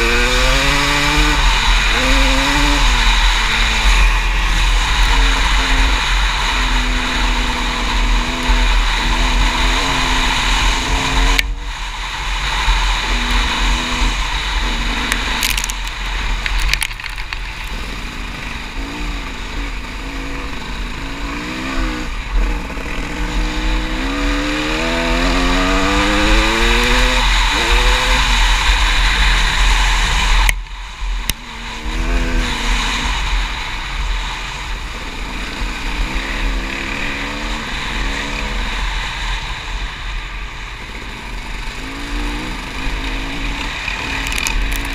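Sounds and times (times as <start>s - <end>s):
off-road vehicle engine revving: 0.0s - 40.1s, 40.7s - 44.9s.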